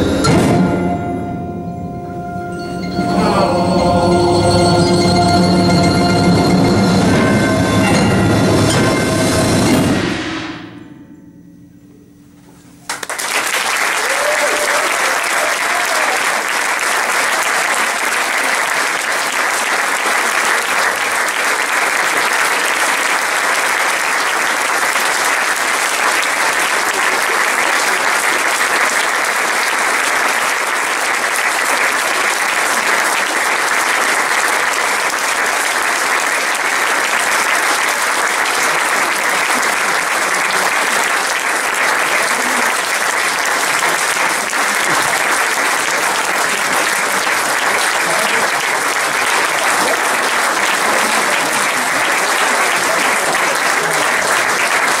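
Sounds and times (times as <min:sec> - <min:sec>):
audience applauding: 0:02.5 - 0:09.4, 0:12.9 - 0:55.0.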